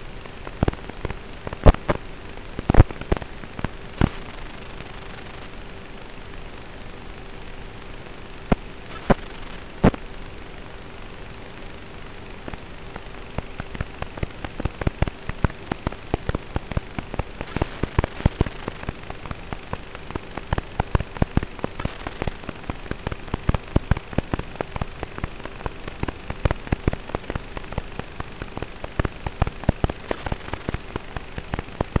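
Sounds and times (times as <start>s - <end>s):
crackling clicks: 0.0s - 32.0s
faint hum and hiss: 0.0s - 32.0s.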